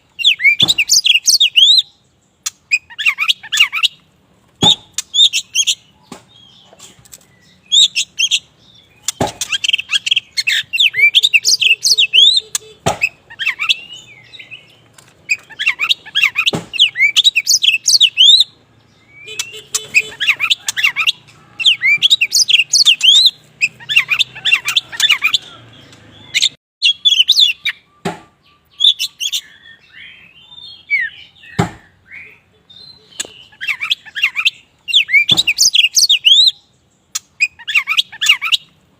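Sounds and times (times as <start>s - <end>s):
bird song chirps and whistles: 0.1s - 4.0s, 4.6s - 38.7s.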